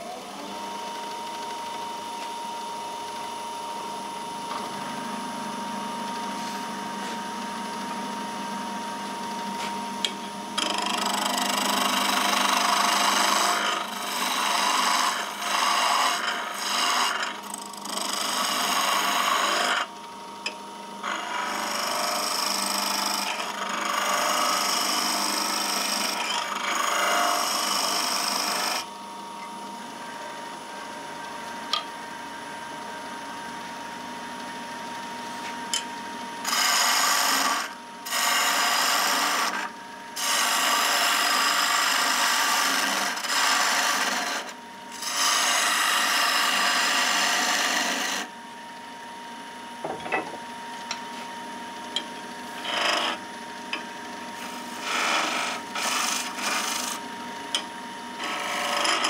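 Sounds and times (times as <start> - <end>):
wood lathe running: 0.0 - 29.0, 29.6 - 31.8, 36.4 - 48.3, 51.7 - 59.0
tool cutting spinning wood: 0.0 - 32.0, 35.1 - 48.4, 49.6 - 59.0.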